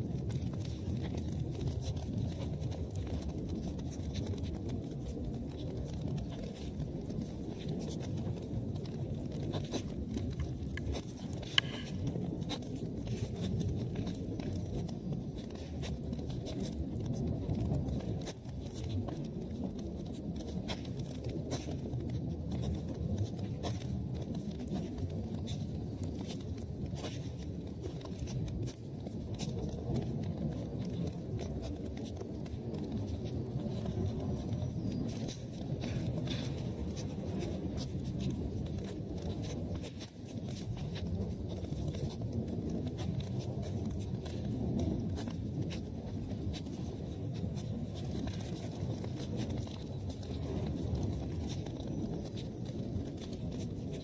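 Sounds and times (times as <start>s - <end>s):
fire crackling in fireplace: 0.0s - 54.0s.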